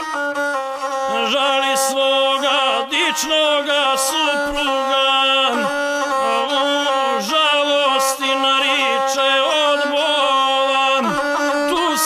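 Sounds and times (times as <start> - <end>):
bowed fiddle playing: 0.0 - 12.0.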